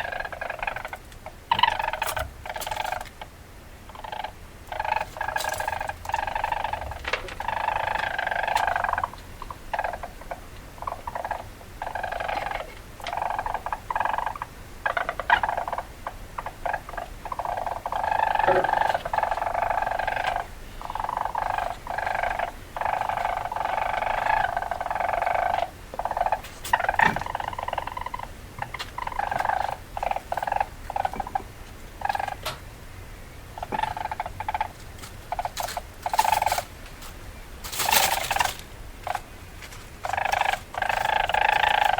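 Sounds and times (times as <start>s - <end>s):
weasel chattering: 0.0s - 3.3s, 3.9s - 32.5s, 33.6s - 36.7s, 37.6s - 39.3s, 40.0s - 41.9s.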